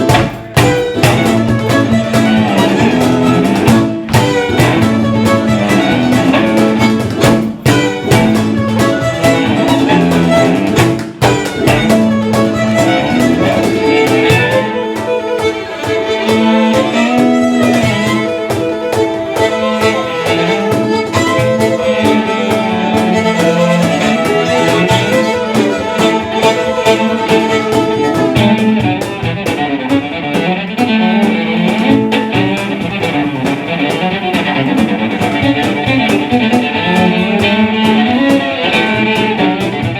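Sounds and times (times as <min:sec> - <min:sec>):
fiddle playing: 0:00.0 - 0:39.9
guitar playing: 0:00.0 - 0:39.9.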